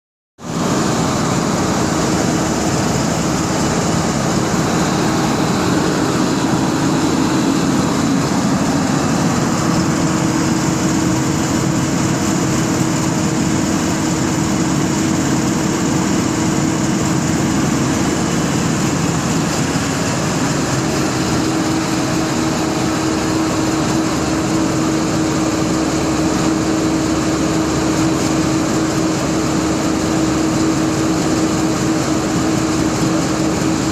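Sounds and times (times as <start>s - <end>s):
machine engine running steadily: 0.4s - 33.9s.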